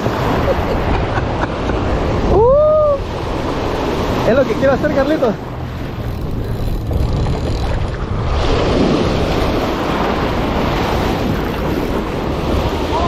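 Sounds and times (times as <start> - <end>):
ocean surf breaking on sand: 0.0 - 13.0
wind buffeting microphone: 0.0 - 13.0.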